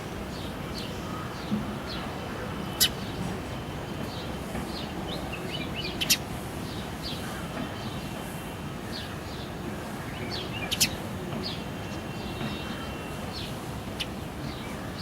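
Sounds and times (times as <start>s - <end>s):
low background noise: 0.0s - 15.0s
sparrows chirping: 0.3s - 3.2s, 4.1s - 8.1s, 8.9s - 15.0s.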